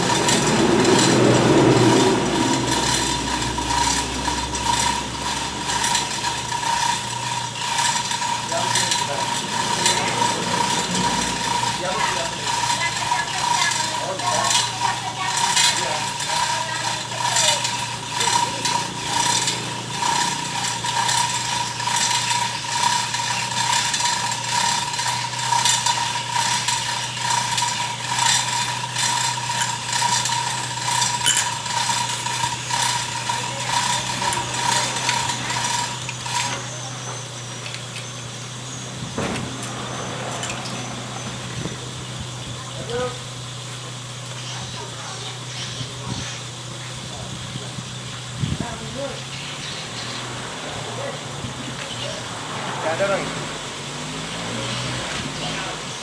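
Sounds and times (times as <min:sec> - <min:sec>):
mechanical rattling and clicking: 0:00.0 - 0:50.5.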